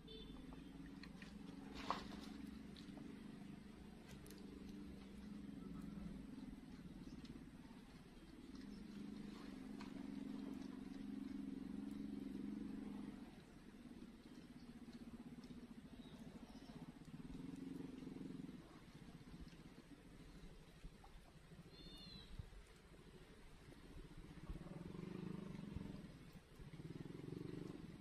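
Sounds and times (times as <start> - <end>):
distant small engine drone: 0.0 - 28.0.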